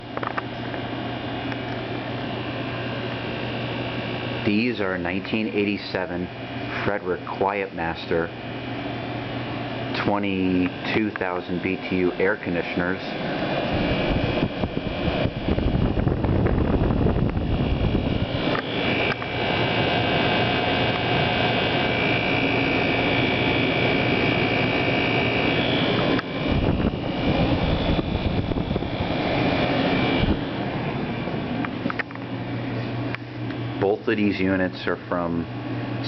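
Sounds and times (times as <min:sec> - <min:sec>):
air conditioners blowing air: 0:00.0 - 0:36.0.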